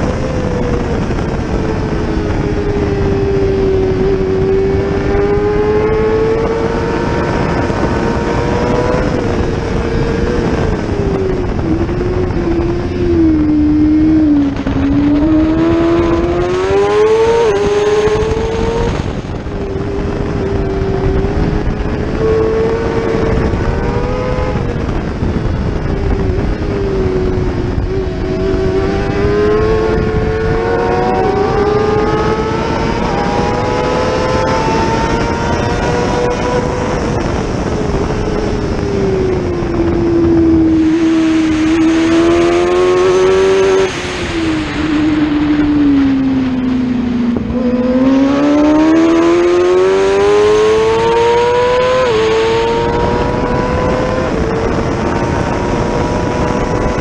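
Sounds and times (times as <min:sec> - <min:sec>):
racing motorcycle engine revving: 0:00.0 - 0:57.0
steady rushing noise: 0:00.0 - 0:57.0.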